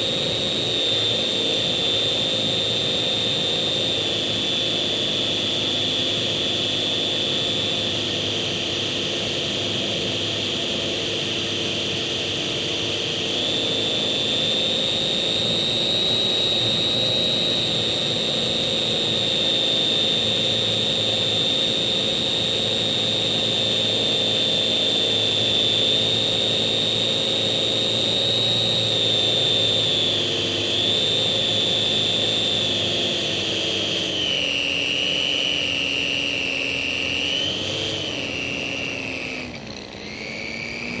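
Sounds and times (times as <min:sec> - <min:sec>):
electric motor and propeller whine: 0:00.0 - 0:41.0.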